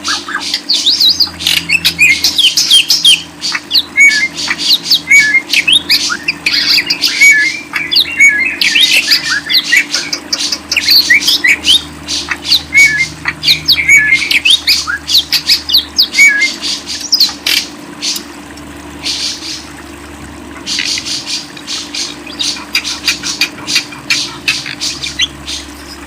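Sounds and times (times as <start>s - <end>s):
birds chirping and squawking: 0.0s - 19.8s, 20.4s - 26.0s.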